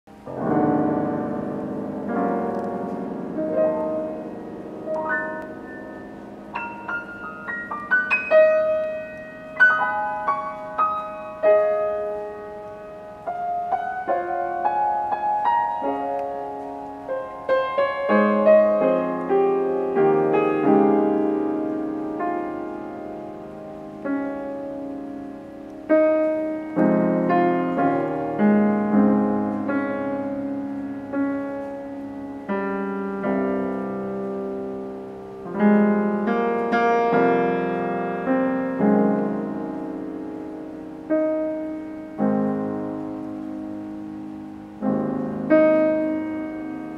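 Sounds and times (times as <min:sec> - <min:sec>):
grand piano improvisation: 0:00.1 - 0:46.9.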